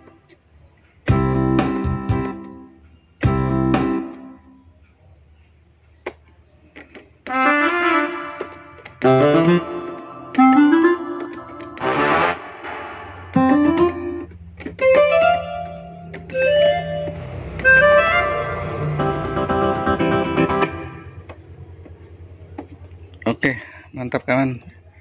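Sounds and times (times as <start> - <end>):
keyboard playing notes and chords: 0.0 - 23.0.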